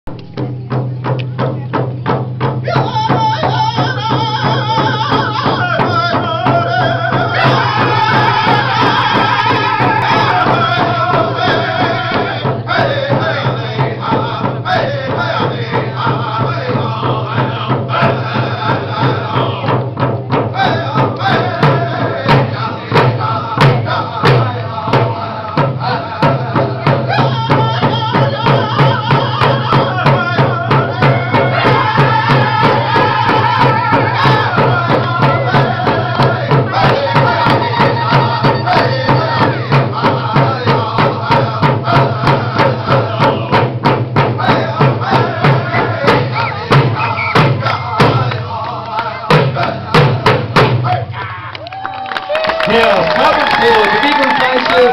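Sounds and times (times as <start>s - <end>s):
steady drumbeat: 0.1s - 51.2s
men singing in chant: 2.4s - 51.2s.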